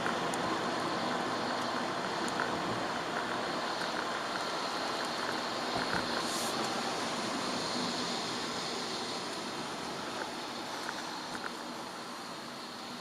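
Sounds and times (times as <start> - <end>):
rain hiss: 0.0 - 13.0
raindrops ticking: 0.0 - 13.0
tyre noise on wet road: 0.0 - 13.0.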